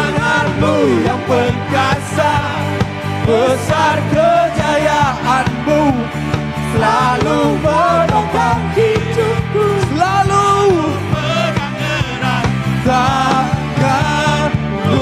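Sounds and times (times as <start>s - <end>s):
person singing: 0.0s - 6.1s, 6.7s - 15.0s
keyboard chords: 0.0s - 15.0s
steady drum beat: 0.0s - 15.0s
sustained bass: 0.0s - 15.0s.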